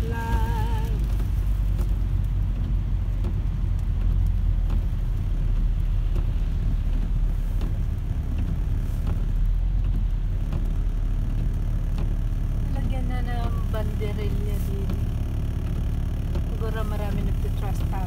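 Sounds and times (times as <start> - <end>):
car road noise on wet road: 0.0 - 18.0.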